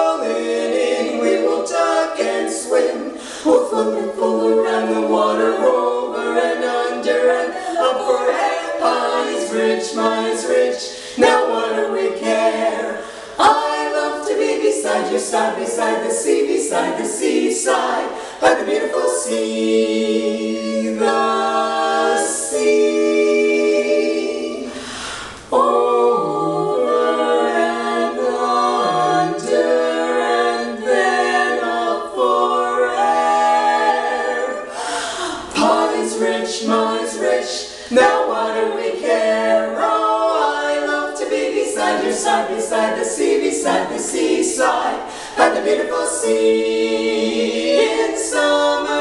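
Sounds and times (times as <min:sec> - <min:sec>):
women singing a cappella harmony: 0:00.0 - 0:49.0.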